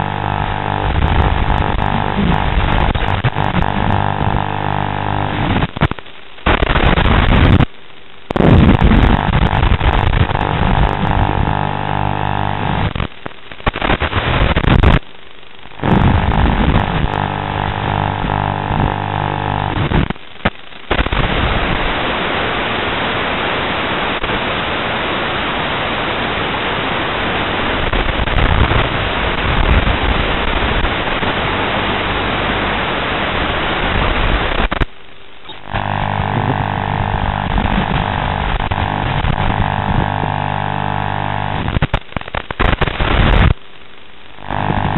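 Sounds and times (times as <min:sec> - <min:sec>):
electrical buzz: 0:00.0 - 0:24.8, 0:26.8 - 0:43.6, 0:44.2 - 0:44.9
static hiss: 0:00.0 - 0:44.9.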